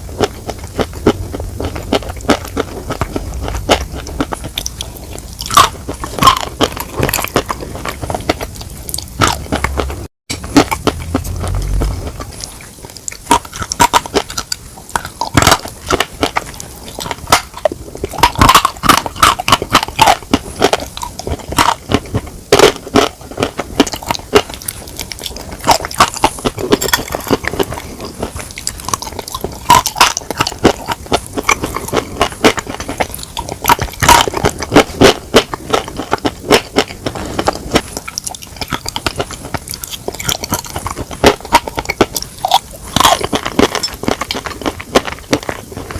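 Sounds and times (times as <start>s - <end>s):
crunching bites and chewing: 0.0s - 45.9s.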